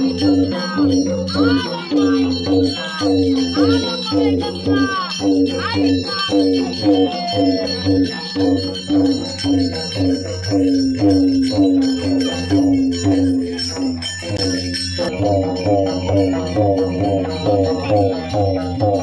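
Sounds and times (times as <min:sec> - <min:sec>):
bells ringing: 0:00.0 - 0:19.0.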